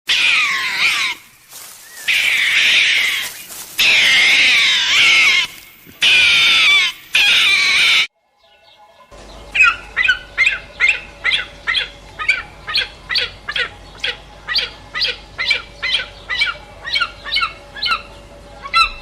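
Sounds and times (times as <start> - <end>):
animal harsh high-pitched calls: 0.1 - 1.3, 2.0 - 8.1, 9.5 - 19.0.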